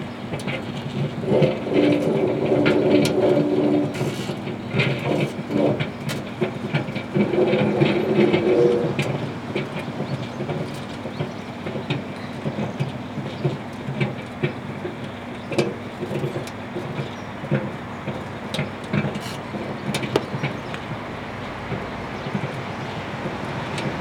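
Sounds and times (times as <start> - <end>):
steel wool arcs crackling: 0.2 - 24.0.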